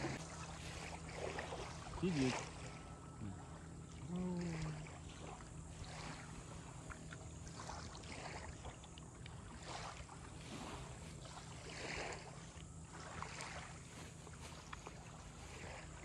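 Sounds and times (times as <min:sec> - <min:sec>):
light wind: 0:00.0 - 0:16.0
small waves lapping on shore: 0:00.0 - 0:16.0.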